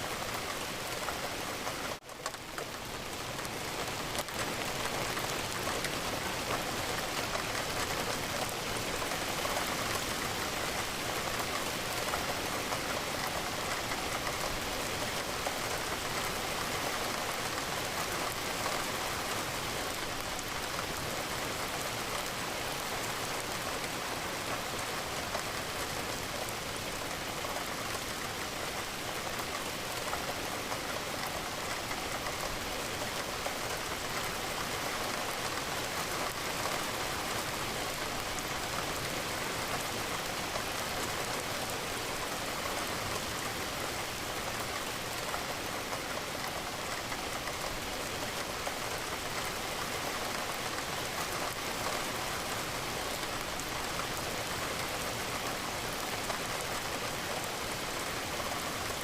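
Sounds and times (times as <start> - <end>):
rain pattering on a window: 0.0 - 59.0.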